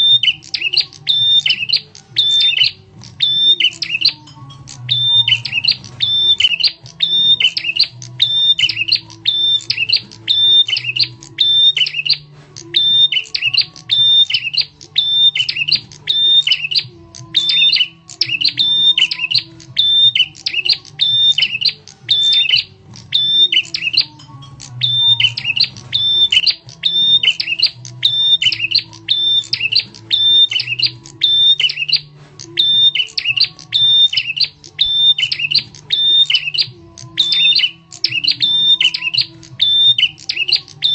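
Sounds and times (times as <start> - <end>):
bird chirps: 0.0 - 40.9.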